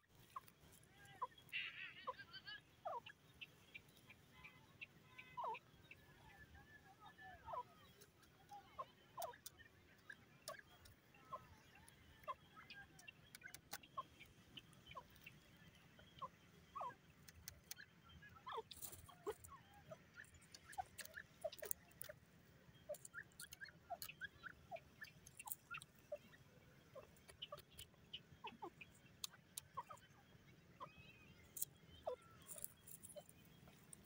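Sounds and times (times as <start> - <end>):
faint bird chirps: 0.0 - 34.0.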